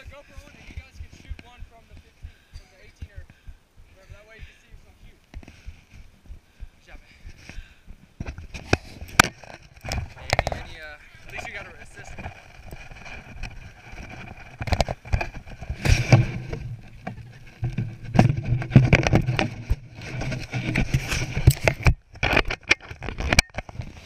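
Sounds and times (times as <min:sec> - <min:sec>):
knocks and thumps: 0:00.0 - 0:10.7, 0:12.2 - 0:24.0.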